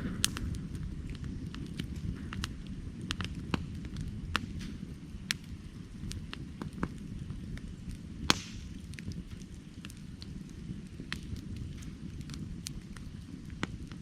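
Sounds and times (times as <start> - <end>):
firewood crackling: 0.0 - 14.0
low rumble of flames: 0.0 - 14.0
sharp pops and snaps: 0.2 - 10.3, 11.0 - 14.0.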